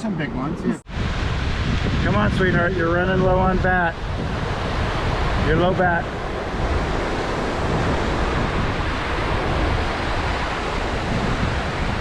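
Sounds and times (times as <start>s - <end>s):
wind rumbling on microphone: 0.2s - 12.0s
ocean surf washing on shore: 0.8s - 12.0s.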